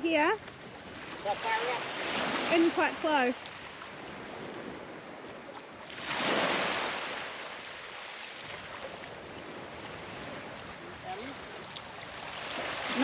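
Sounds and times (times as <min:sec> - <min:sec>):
low wash of surf: 0:00.0 - 0:13.0
small waves washing on sand: 0:00.1 - 0:13.0.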